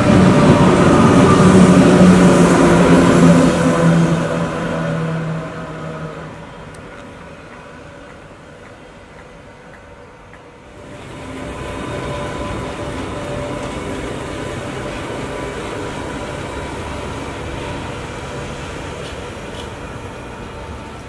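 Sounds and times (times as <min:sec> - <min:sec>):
electric locomotive whine: 0:00.0 - 0:21.0
wheels rumbling on rail: 0:00.0 - 0:21.0.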